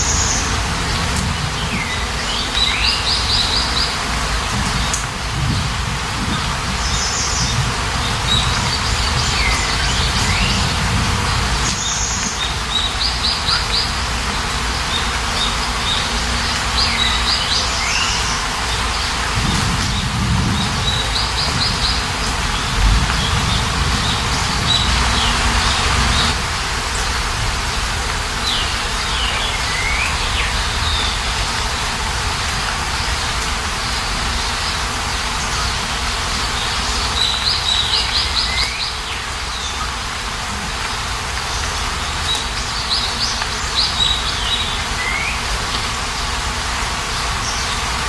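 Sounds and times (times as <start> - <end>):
songbirds chirping: 0.0 - 48.0
steady hiss: 0.0 - 48.0.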